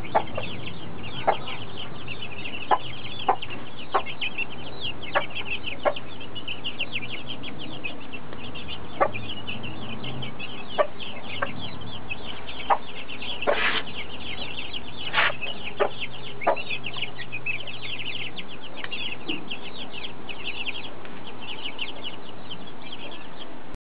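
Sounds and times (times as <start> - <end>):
hen clucking: 0.0 - 23.5
chicks peeping: 0.0 - 23.7.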